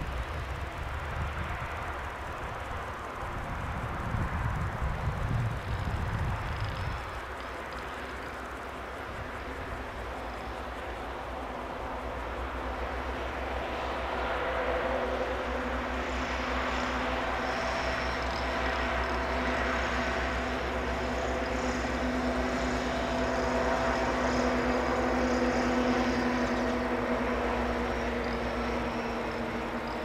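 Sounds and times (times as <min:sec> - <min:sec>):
distant engine drone: 0:00.0 - 0:30.0.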